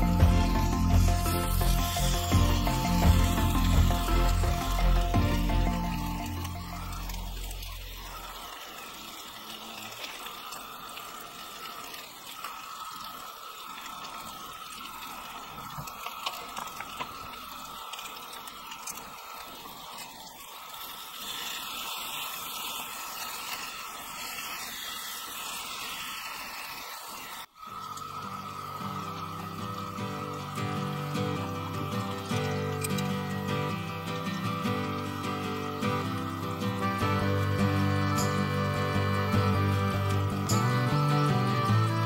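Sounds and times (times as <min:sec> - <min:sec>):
bacon sizzling in a skillet: 0:00.0 - 0:42.0.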